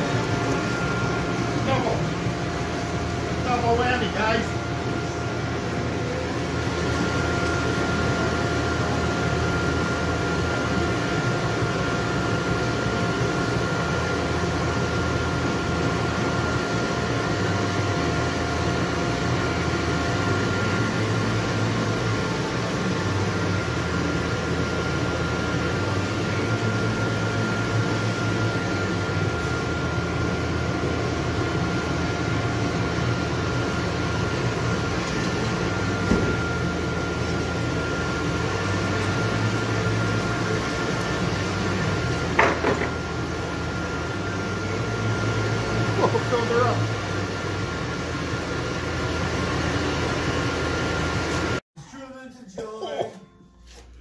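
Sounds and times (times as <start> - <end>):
thin steady whine: 0.0 - 54.0.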